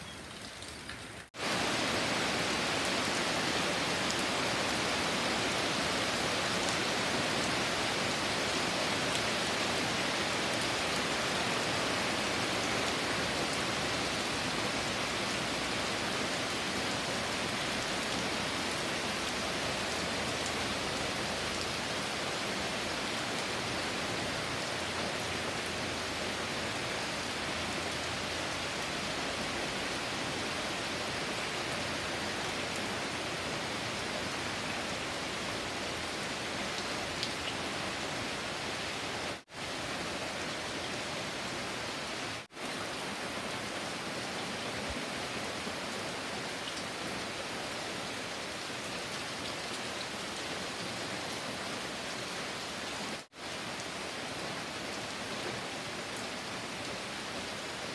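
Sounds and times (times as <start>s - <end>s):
heavy rain on foliage: 0.0s - 57.9s.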